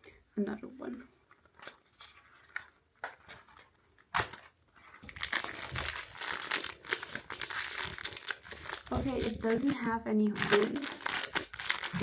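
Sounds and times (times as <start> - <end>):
packaging crinkling: 1.2 - 12.0.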